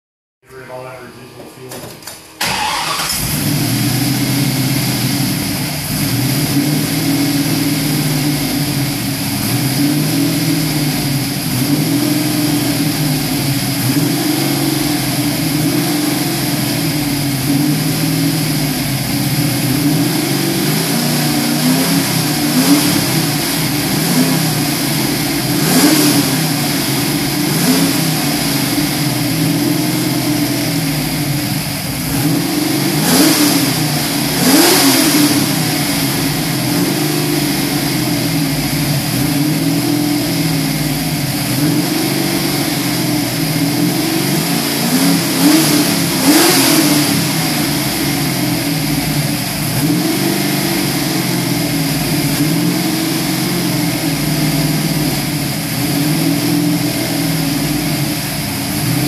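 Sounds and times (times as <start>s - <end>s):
engine idling unevenly: 0.4s - 59.0s
engine throttle blips: 0.4s - 59.0s.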